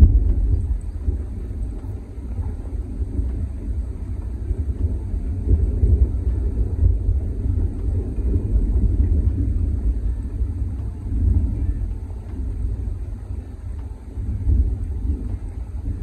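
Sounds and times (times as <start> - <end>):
gusty wind buffeting microphone: 0.0 - 16.0.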